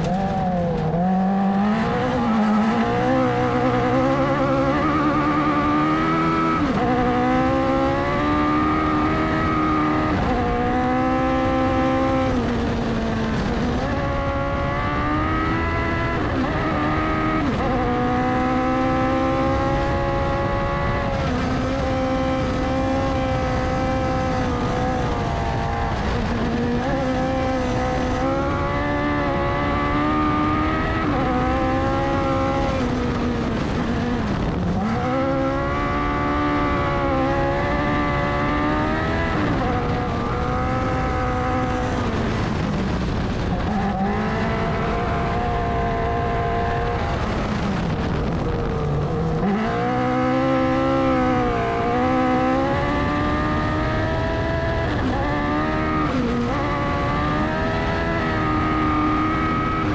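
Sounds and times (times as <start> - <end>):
buggy engine accelerating hard: 0.0 - 59.9
road and wind noise: 0.0 - 59.9.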